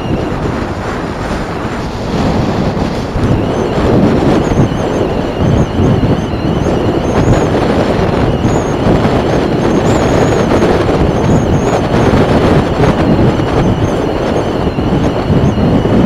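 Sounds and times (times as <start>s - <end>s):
motorbike running: 0.0s - 16.0s
wind rush on microphone: 0.0s - 16.0s.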